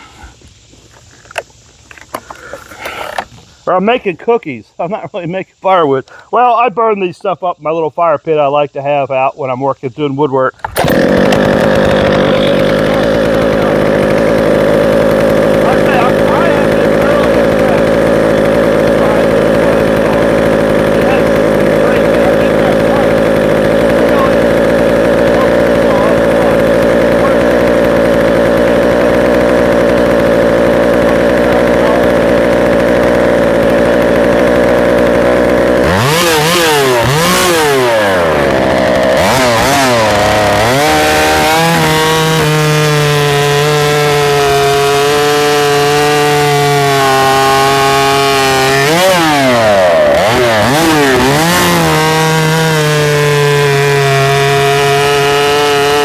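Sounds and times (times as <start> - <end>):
chainsaw cutting log: 0.0 - 3.4, 10.5 - 56.0.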